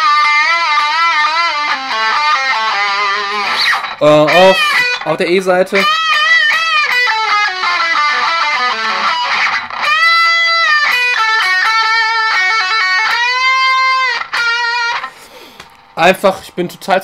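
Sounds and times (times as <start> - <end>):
electric guitar lead with bends: 0.0 - 15.3.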